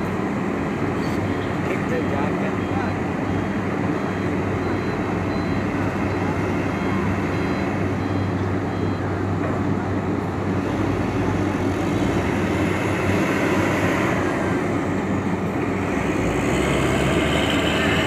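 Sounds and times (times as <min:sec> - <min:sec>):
heavy truck engines rumbling: 0:00.0 - 0:18.0.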